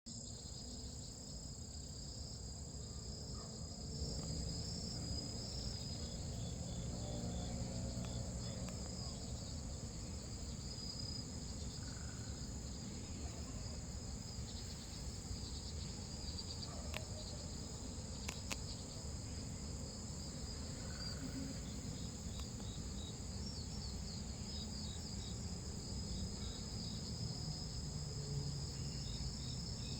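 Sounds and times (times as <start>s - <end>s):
cicada buzzing: 0.1s - 29.9s.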